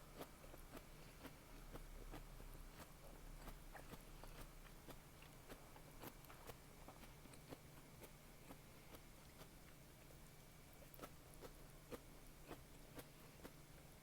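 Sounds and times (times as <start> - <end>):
chewing and biting food: 0.0 - 14.0.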